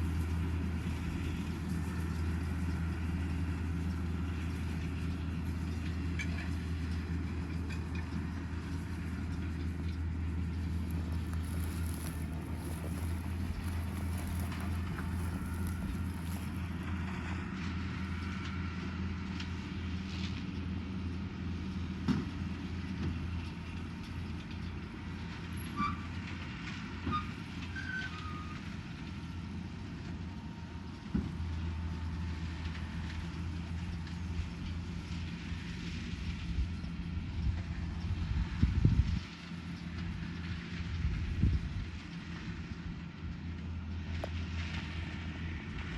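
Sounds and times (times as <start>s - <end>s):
tractor engine hum: 0.0s - 45.9s.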